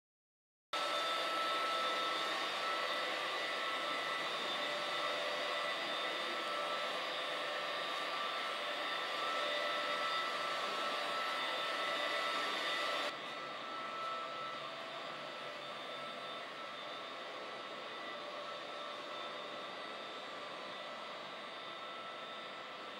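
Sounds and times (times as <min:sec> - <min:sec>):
floor grinder whining hum: 0:00.8 - 0:22.9.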